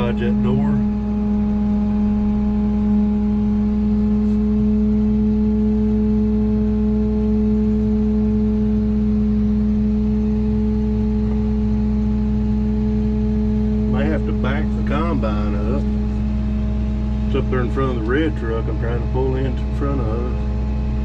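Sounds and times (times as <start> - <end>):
sprayer engine humming: 0.0 - 21.0.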